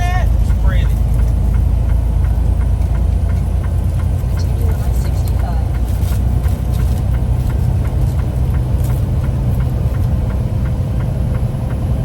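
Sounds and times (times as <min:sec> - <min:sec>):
engine rumble inside cab: 0:00.0 - 0:12.0
light ticks: 0:00.4 - 0:11.9.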